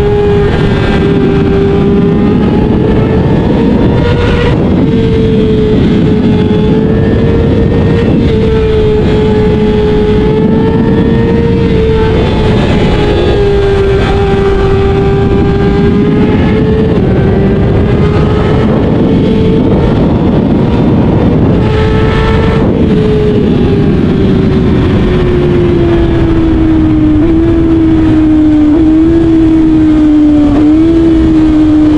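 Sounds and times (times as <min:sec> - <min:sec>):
motorcycle engine at high revs: 0:00.0 - 0:31.9.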